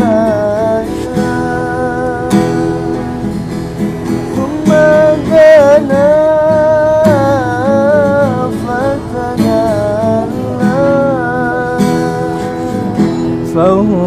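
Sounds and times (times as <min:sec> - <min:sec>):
person singing with ornamented notes: 0:00.0 - 0:14.0
strummed acoustic guitar: 0:00.0 - 0:14.0.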